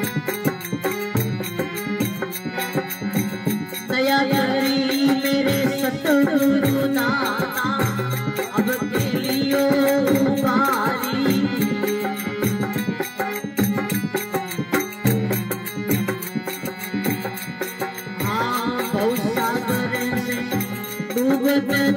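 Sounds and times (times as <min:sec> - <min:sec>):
hand percussion beat: 0:00.0 - 0:21.9
harmonium tones: 0:00.0 - 0:21.9
man singing devotional song: 0:00.0 - 0:21.9.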